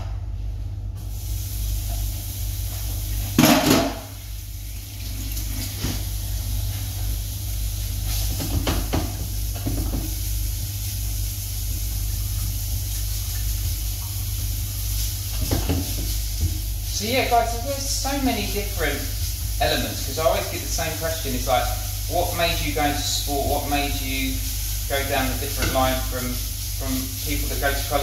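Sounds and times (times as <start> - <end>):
steady low hum: 0.0 - 28.0
pancetta sizzling in frying pan: 1.1 - 28.0.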